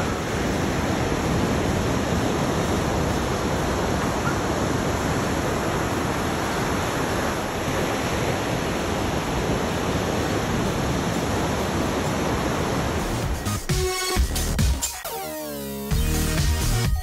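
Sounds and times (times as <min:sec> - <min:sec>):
ocean waves breaking: 0:00.0 - 0:13.9.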